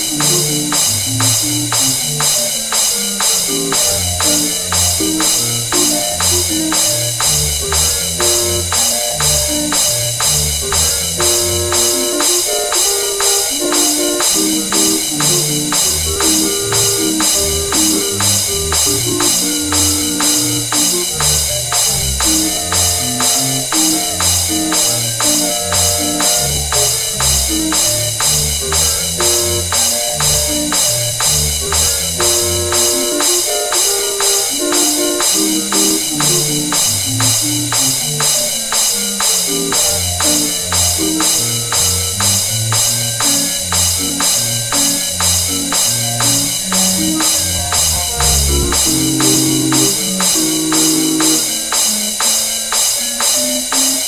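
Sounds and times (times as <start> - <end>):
barrel organ tune: 0.0 - 54.0
crisp percussion beat: 0.0 - 54.0.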